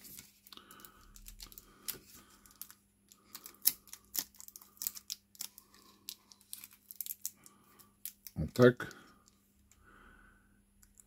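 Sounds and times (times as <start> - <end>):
plastic parts and tape clicking: 0.2 - 9.8.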